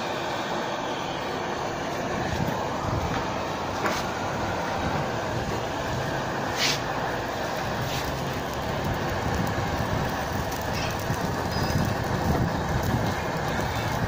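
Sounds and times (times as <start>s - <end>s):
gas torch flame rushing: 0.0s - 14.0s.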